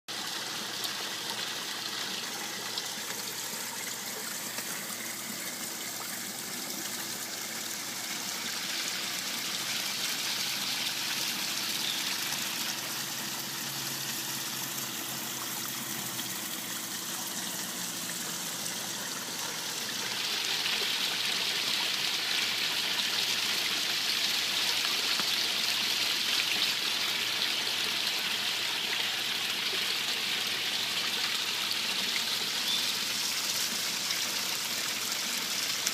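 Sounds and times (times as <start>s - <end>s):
waterfall splashing into pond: 0.1s - 35.9s.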